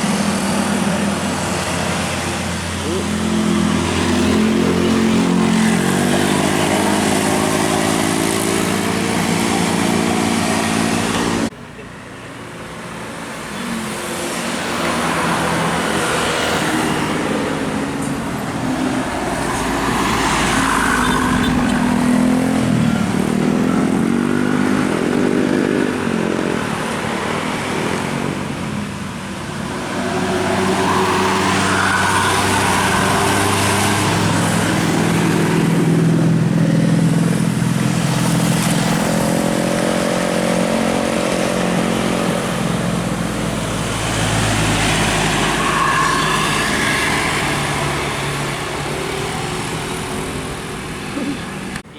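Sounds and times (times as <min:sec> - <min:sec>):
vehicle noise: 0:00.0 - 0:51.9.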